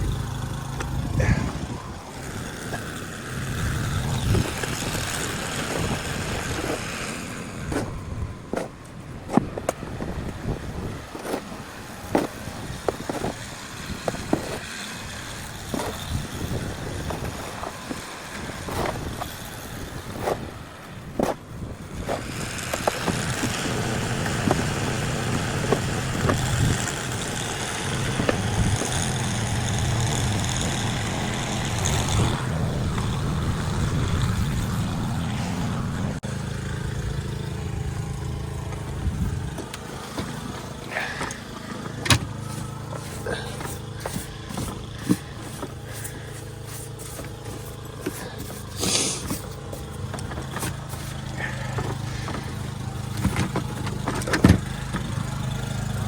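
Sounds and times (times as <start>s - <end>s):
motor rumbling and hissing: 0.0s - 56.0s
snow shovel scraping snow: 1.0s - 36.1s, 39.0s - 54.1s.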